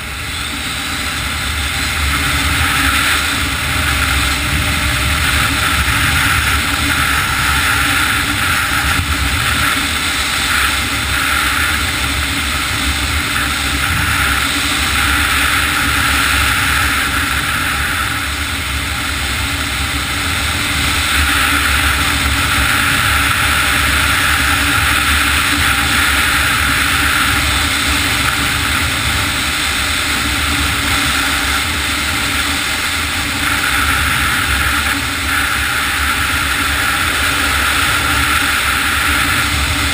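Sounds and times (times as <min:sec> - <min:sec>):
snowmobile running: 0:00.0 - 0:39.9.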